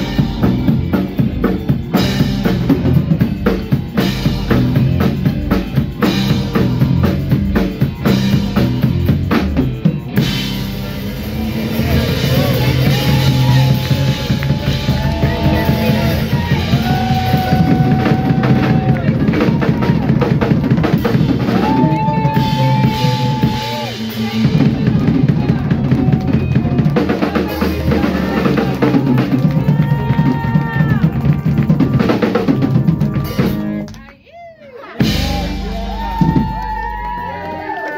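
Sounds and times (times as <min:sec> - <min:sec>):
drum kit steady beat: 0:00.0 - 0:33.9, 0:34.9 - 0:37.9
band music: 0:00.0 - 0:37.9.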